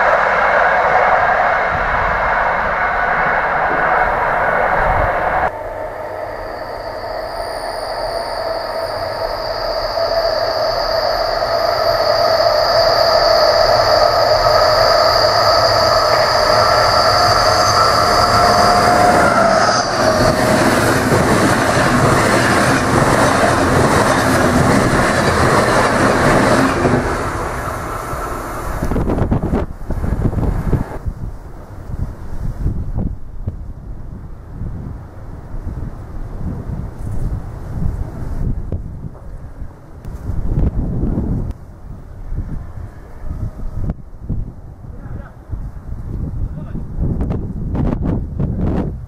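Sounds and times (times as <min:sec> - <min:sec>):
electric locomotive whine: 0:00.0 - 0:49.0
train coaches rumbling and clattering: 0:00.0 - 0:49.0.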